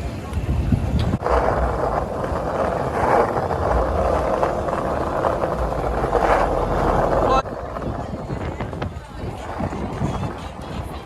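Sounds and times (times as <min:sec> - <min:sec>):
skate wheels rolling on pavement: 0:00.0 - 0:11.0.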